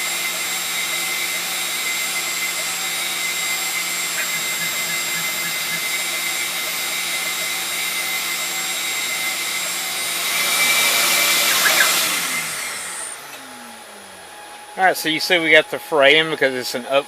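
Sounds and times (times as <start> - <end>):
shop vacuum running: 0.0 - 17.0
router spindle whirring: 0.1 - 14.7.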